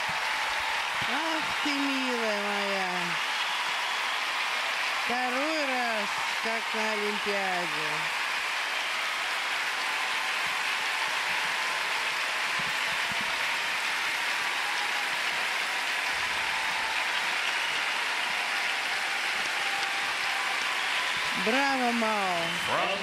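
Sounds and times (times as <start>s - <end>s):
arena crowd applauding: 0.0s - 23.0s.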